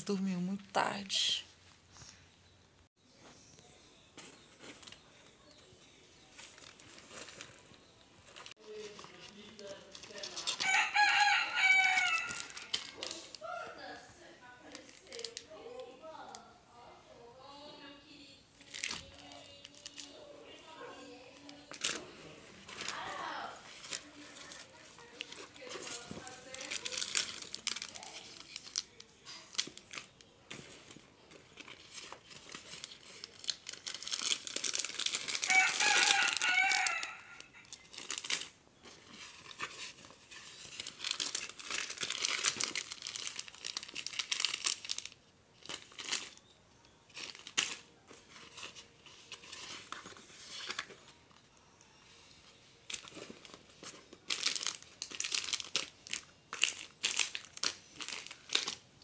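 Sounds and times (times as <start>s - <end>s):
plastic wrappers crinkling: 6.2s - 16.4s, 18.6s - 59.0s.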